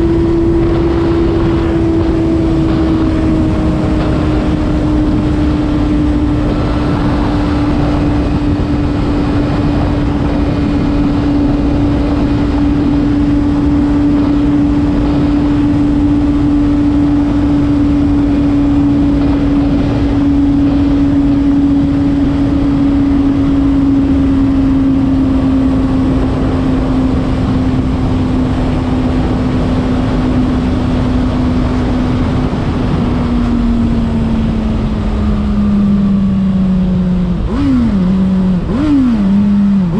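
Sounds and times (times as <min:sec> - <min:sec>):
motorcycle engine at high revs: 0:00.0 - 0:39.9
wind rushing: 0:00.0 - 0:39.9.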